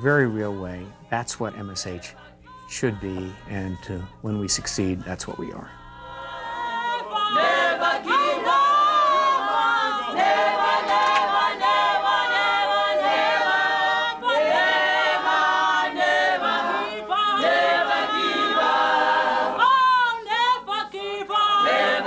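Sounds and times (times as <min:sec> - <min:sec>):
unaccompanied choir singing: 0:00.0 - 0:22.0.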